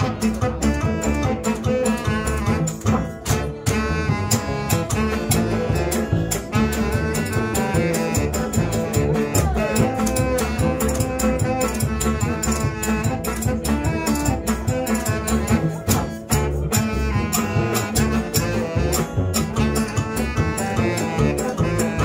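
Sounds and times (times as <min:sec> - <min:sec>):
acoustic guitars strumming: 0:00.0 - 0:22.0
saxophone playing held notes: 0:00.0 - 0:22.0.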